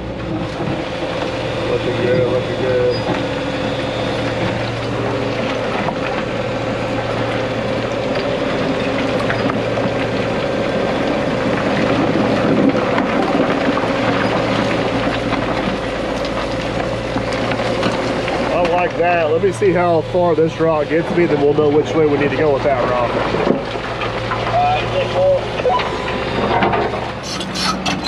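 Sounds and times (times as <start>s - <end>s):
bulldozer working: 0.0s - 28.0s
excavator engine and hydraulics: 0.0s - 28.0s.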